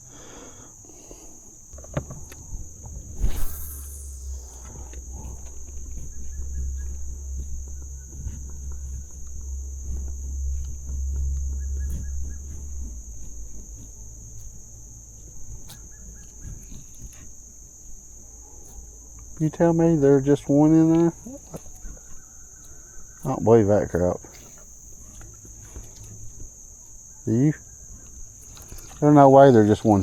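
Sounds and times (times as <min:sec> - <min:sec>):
crickets and insects chirping: 0:00.0 - 0:30.0.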